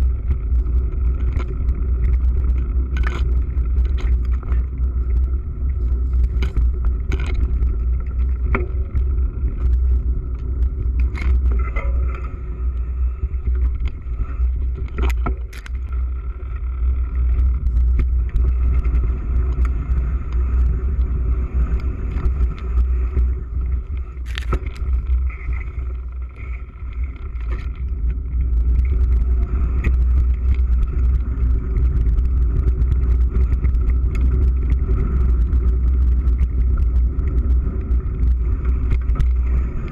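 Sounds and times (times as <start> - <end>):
bike rattling and knocking: 0.0 - 39.9
bike tyres on dirt: 0.0 - 39.9
wind rumble on microphone: 0.0 - 39.9.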